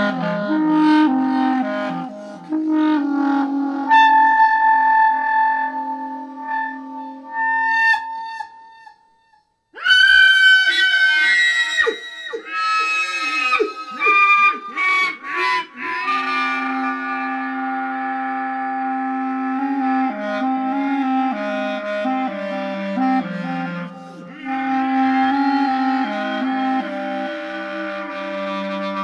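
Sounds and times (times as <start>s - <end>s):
layered clarinet tones: 0.0s - 8.6s, 9.8s - 29.0s
clarinet gliding phrases: 0.0s - 9.0s, 9.8s - 29.0s.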